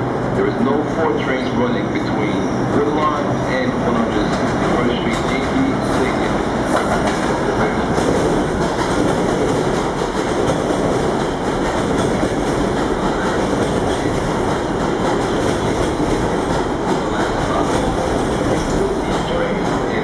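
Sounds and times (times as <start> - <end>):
subway train running: 0.0 - 20.0.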